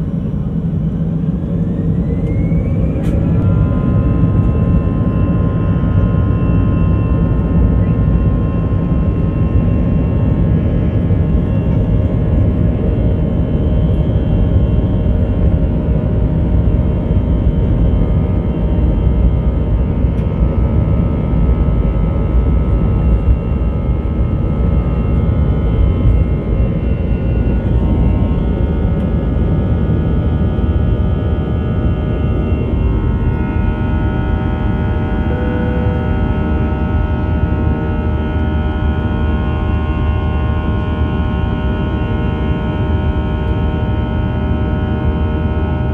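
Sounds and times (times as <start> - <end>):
jet engine whining tones: 0.0 - 45.9
jet engines rumbling: 0.0 - 45.9.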